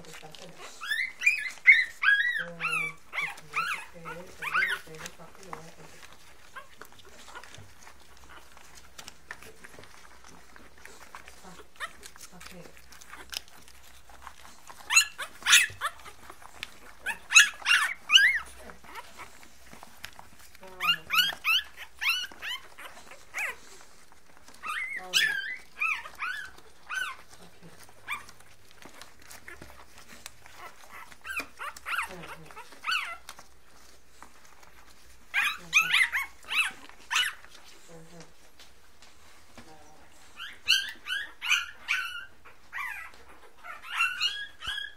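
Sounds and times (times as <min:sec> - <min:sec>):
puppies whimpering and squealing: 0:00.0 - 0:44.9.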